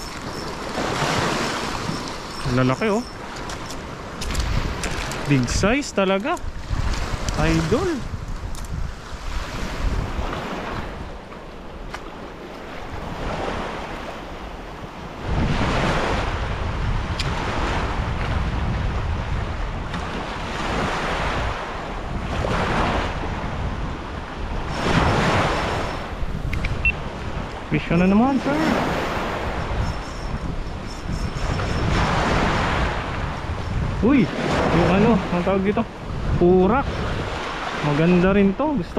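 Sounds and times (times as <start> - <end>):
sea waves washing onto shore: 0.0 - 29.8, 31.4 - 38.9
wind rumbling on microphone: 0.0 - 38.9.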